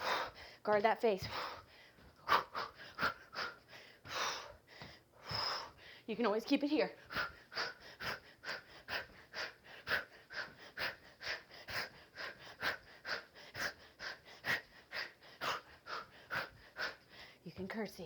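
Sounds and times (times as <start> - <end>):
woman breathing sharply: 0.0 - 0.6, 1.2 - 6.1, 7.0 - 17.4.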